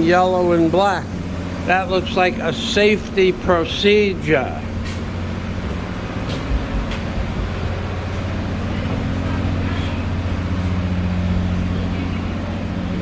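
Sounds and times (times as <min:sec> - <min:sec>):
ship engine droning: 0:00.0 - 0:13.0.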